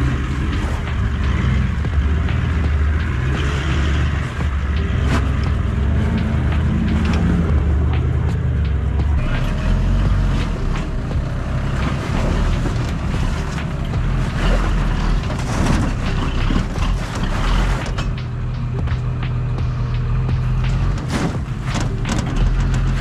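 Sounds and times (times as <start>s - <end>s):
vehicle engine at low speed: 0.0s - 23.0s.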